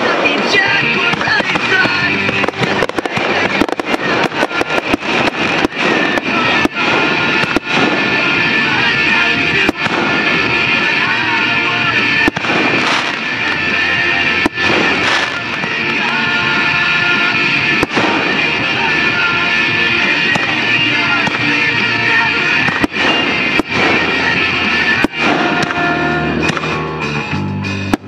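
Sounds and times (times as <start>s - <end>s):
fireworks cracking and banging: 0.0s - 28.0s
music: 0.0s - 28.0s.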